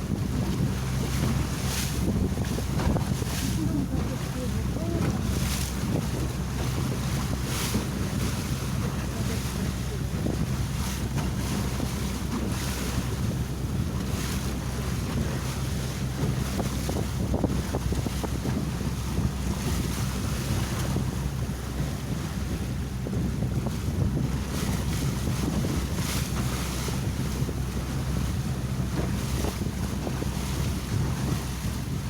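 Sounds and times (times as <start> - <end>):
motorboat engine running: 0.0 - 32.0
water rushing past hull: 0.0 - 32.0
wind buffeting microphone: 0.0 - 32.0.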